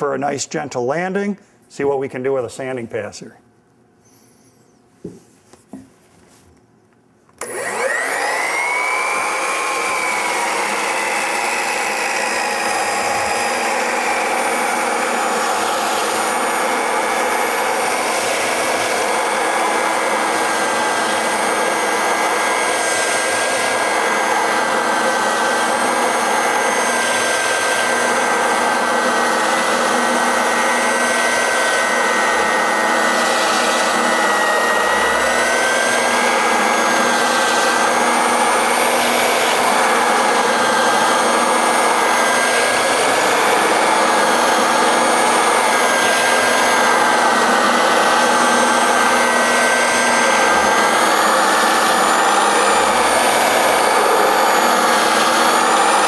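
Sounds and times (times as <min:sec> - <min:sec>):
belt sander motor whine: 0:07.4 - 0:56.0.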